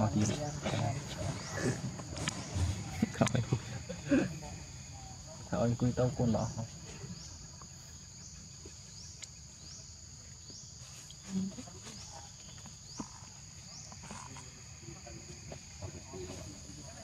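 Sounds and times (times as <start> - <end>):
pulsing insect chorus: 0.0 - 17.0.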